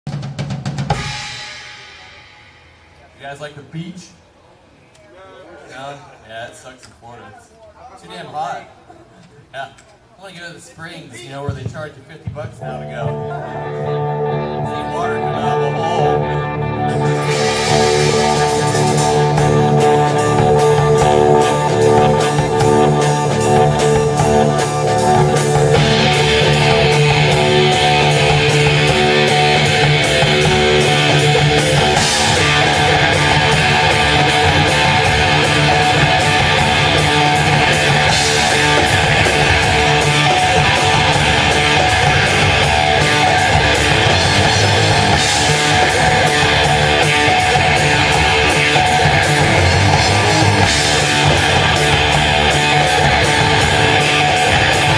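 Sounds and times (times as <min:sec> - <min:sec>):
live rock band playing: 0:00.1 - 0:03.2, 0:11.5 - 0:54.9.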